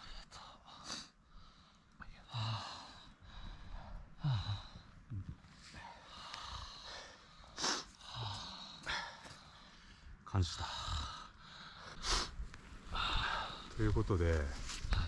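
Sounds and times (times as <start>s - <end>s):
person breathing heavily: 0.0s - 13.8s.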